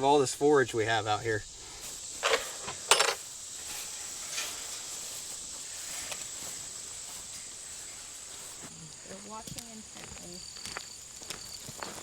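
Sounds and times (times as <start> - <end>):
insects chirring: 0.0 - 12.0
faint ticks or rustles: 1.6 - 12.0.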